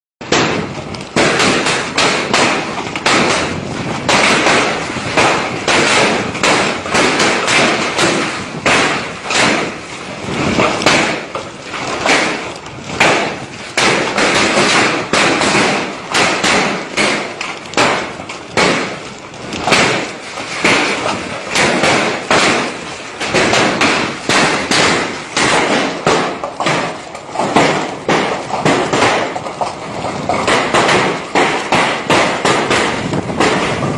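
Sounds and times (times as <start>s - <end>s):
hailstones striking hard surfaces: 0.2s - 33.9s.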